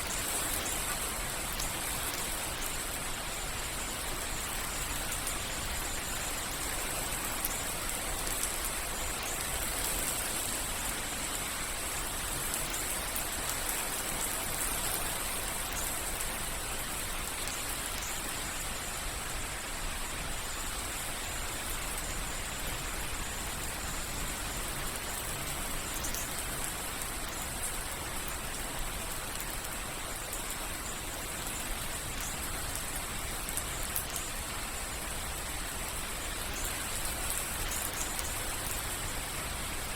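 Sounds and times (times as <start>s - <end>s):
drips and patters on a surface: 0.0s - 19.3s, 21.0s - 39.9s
soft rain falling: 0.0s - 39.9s.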